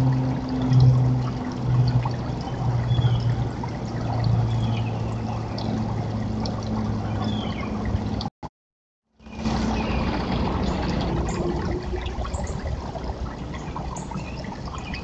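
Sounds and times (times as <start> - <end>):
fountain trickling: 0.0 - 8.3, 9.2 - 15.0
low even hum: 0.0 - 8.3, 9.2 - 15.0.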